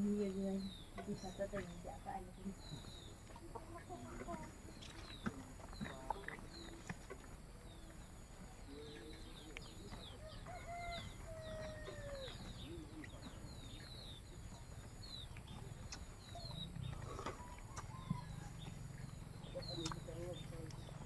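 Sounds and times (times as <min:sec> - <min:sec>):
lower bird calls: 0:00.0 - 0:21.0.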